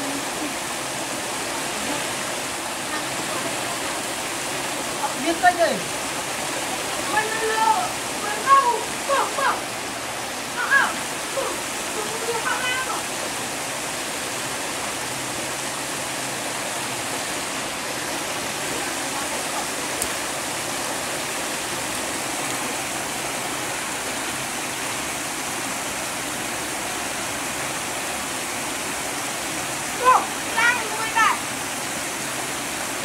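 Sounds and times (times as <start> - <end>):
water rushing through sluice gate: 0.0 - 33.0.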